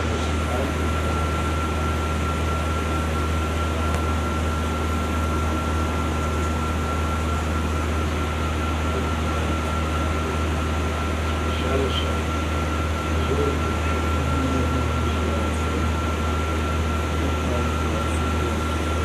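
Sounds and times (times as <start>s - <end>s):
steady low hum: 0.0s - 19.0s
thin steady high tone: 0.1s - 19.0s.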